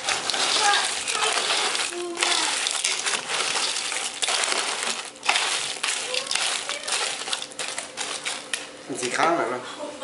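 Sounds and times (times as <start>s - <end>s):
metal ladle stirring: 0.0s - 8.8s
shells rattling in a pot: 0.0s - 9.1s.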